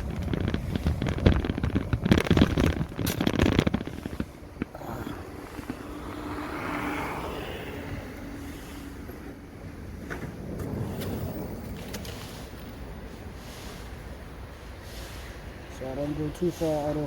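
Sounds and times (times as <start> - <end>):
crackling rumbling microphone noise: 0.0 - 17.0
faint steady hum: 0.0 - 17.0
traffic hiss: 0.0 - 17.0.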